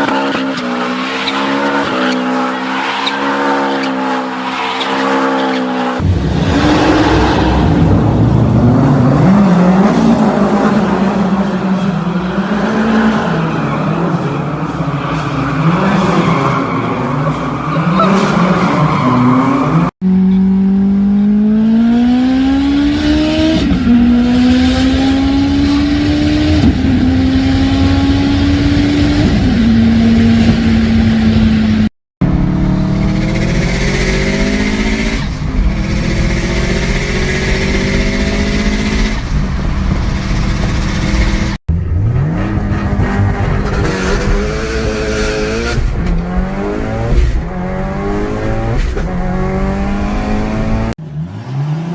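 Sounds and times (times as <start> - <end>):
turbocharged car engine revving: 0.0 - 51.9.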